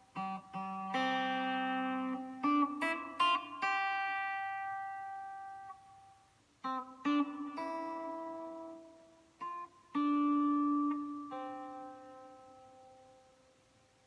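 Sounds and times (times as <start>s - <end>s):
plucked guitar notes and chords: 0.0s - 13.5s.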